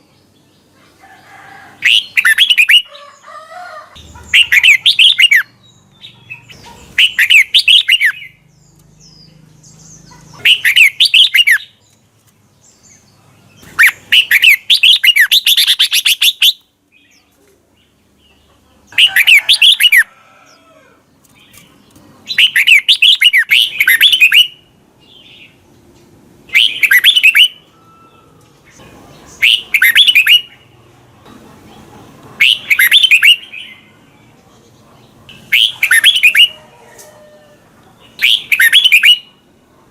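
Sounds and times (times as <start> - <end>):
bird singing warbled phrases: 1.8 - 3.3, 4.0 - 20.6, 21.2 - 30.9, 31.7 - 36.7, 37.8 - 39.5.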